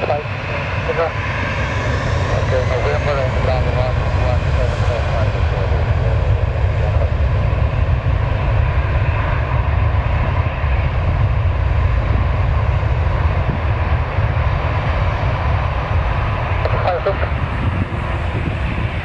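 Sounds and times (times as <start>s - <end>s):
jet engines at takeoff power: 0.0s - 19.0s.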